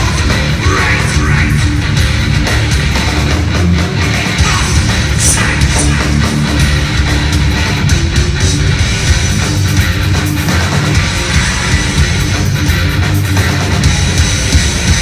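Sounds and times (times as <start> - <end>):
live heavy metal band: 0.0 - 15.0.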